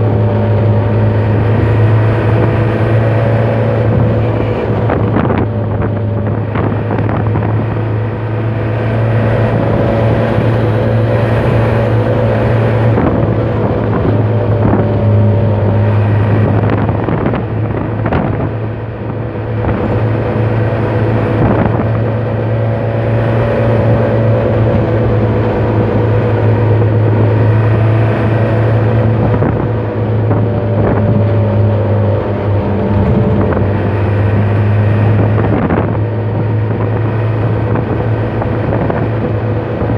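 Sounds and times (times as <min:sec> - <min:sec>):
diesel truck engine humming: 0:00.0 - 0:39.9.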